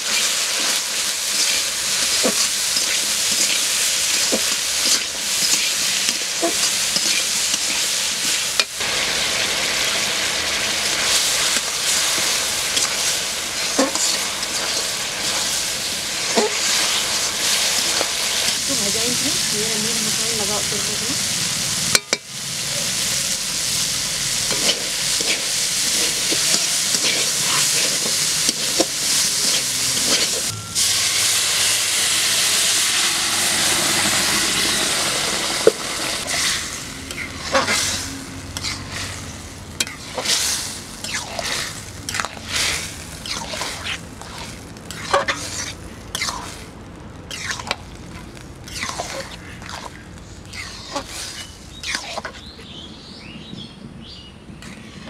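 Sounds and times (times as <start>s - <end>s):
food sizzling in oil: 0.0s - 52.4s
stirring strokes against metal wok: 0.0s - 52.6s.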